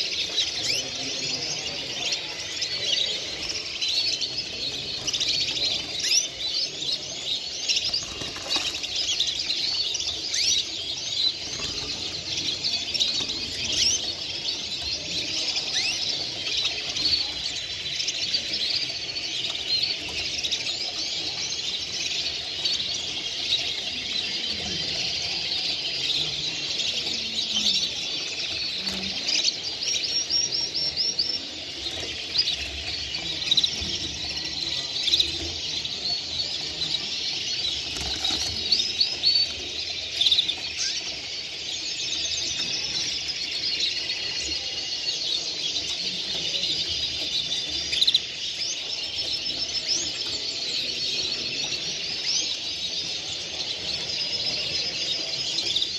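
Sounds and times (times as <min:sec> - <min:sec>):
songbirds chorus: 0:00.0 - 0:55.9.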